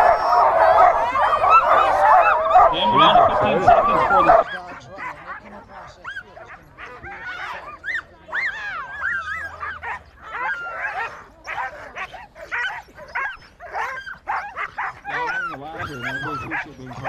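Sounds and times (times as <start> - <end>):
sled dogs barking and yipping: 0.0 - 17.0.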